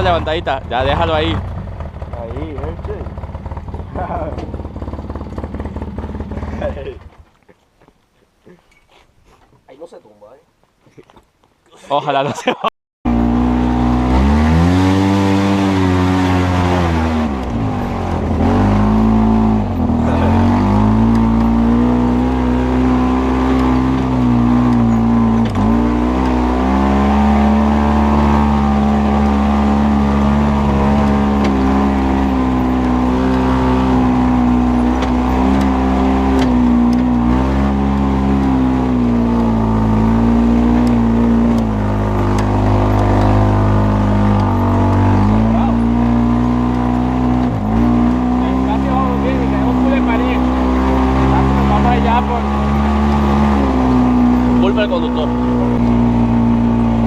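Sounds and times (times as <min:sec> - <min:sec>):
off-road vehicle engine revving: 0:00.0 - 0:07.2, 0:13.1 - 0:57.0.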